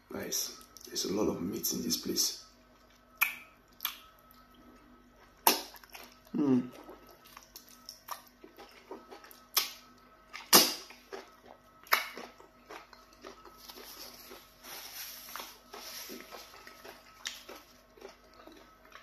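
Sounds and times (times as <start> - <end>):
chewing and mouth sounds: 2.7 - 14.6, 15.3 - 19.0.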